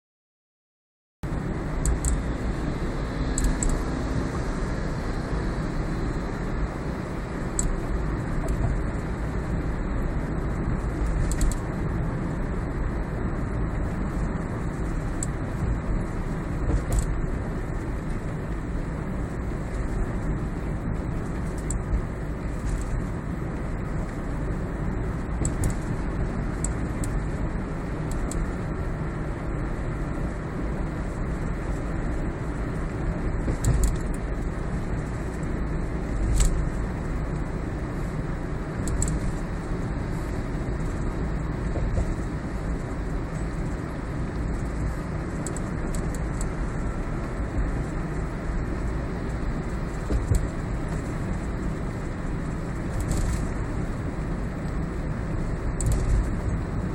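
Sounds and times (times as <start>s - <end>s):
car road rumble: 1.2s - 56.9s.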